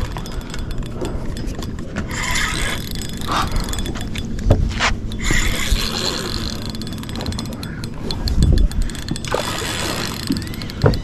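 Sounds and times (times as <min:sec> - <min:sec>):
fishing reel clicking and whirring: 0:00.0 - 0:11.0.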